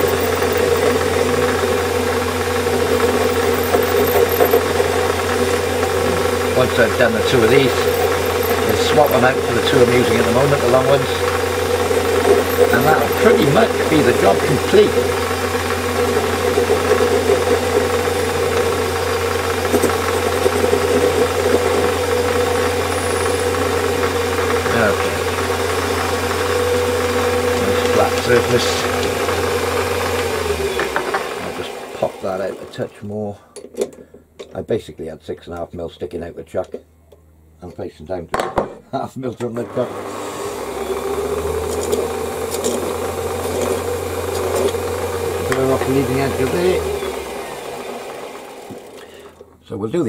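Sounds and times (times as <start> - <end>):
lathe tool facing metal: 0.0 - 32.9, 39.6 - 49.5
metal lathe motor humming: 0.0 - 32.9, 39.6 - 49.6.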